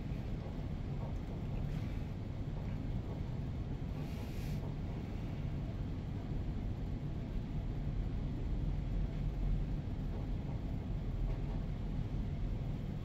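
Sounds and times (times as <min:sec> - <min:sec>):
lift car low rumble: 0:00.0 - 0:13.0.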